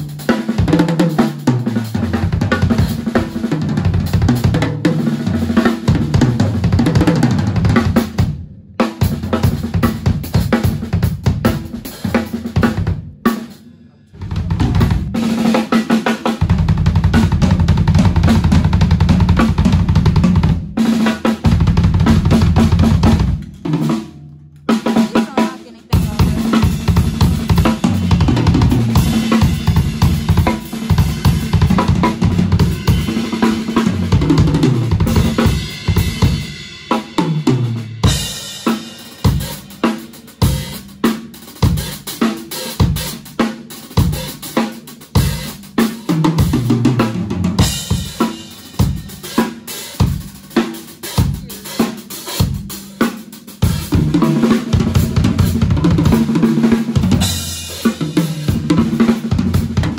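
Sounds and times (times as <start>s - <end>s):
drum kit played hard: 0.0s - 59.9s.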